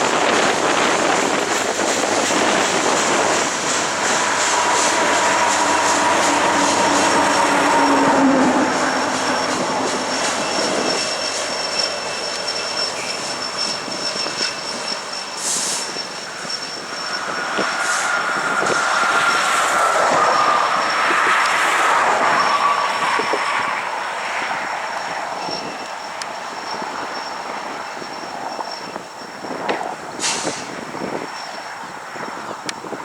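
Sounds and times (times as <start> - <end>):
high wheel squeals: 0.0 - 33.0
train wheels rumbling on rail: 0.0 - 33.0.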